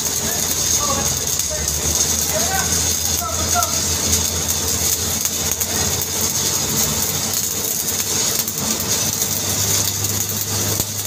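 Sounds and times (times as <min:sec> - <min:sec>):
welding arc crackling and sizzling: 0:00.0 - 0:11.0.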